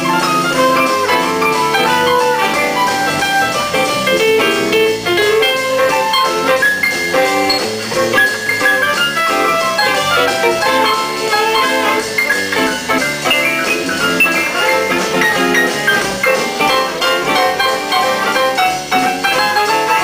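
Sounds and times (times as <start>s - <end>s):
drum kit: 0.0s - 20.0s
electric guitar: 0.0s - 20.0s
keyboard: 0.0s - 20.0s.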